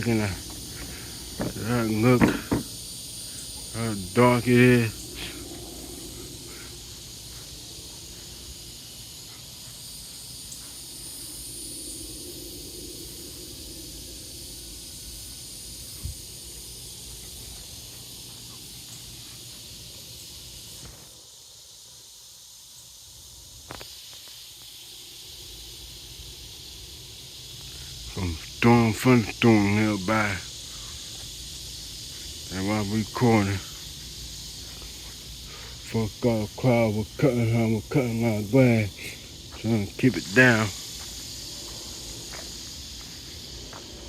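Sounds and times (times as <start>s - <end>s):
insects chorus: 0.0s - 44.0s.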